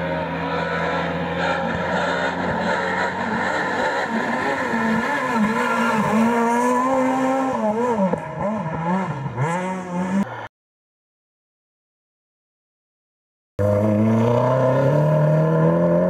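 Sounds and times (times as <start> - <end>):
rally car engine revving: 0.0 - 10.5, 13.6 - 16.0.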